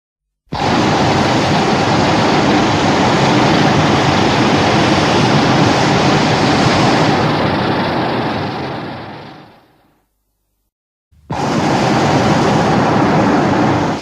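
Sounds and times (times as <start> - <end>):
loud steady rushing noise: 0.5 - 9.7, 11.2 - 14.0.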